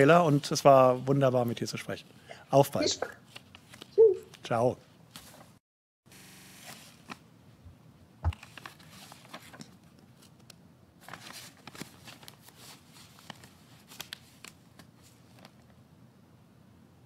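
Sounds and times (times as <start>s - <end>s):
low steady hiss: 0.0s - 5.5s, 6.9s - 17.0s.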